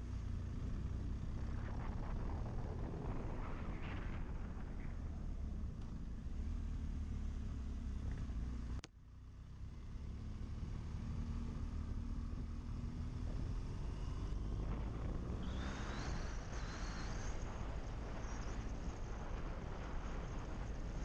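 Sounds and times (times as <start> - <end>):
road wind noise: 0.0 - 21.0.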